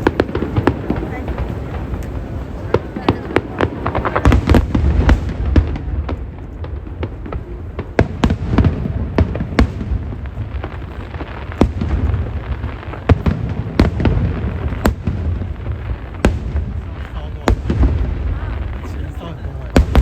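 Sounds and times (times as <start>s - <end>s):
fireworks bangs and crackles: 0.0s - 20.0s
low rumble of bursting shells: 0.0s - 20.0s.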